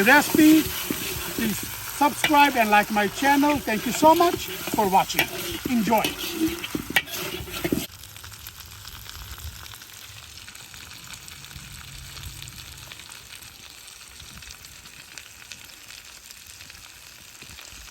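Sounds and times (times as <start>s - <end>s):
chicken sizzling in a hot pan: 0.0s - 17.9s.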